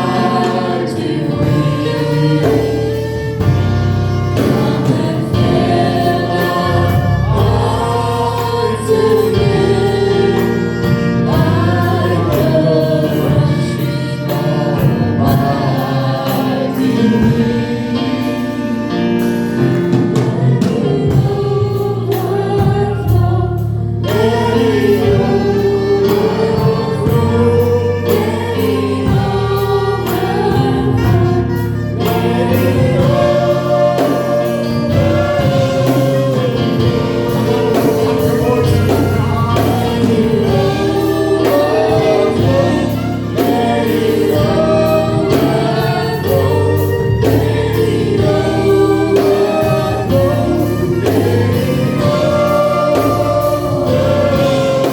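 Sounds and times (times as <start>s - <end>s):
gospel singing over band: 0.0s - 54.9s.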